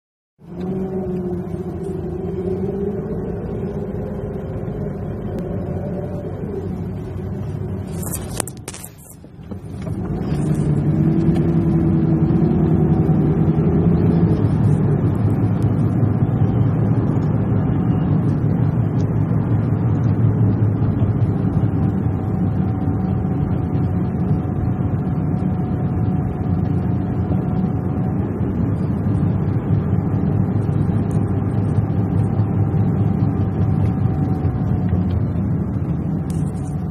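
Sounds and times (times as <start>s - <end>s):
vehicle engine humming: 0.4s - 36.9s.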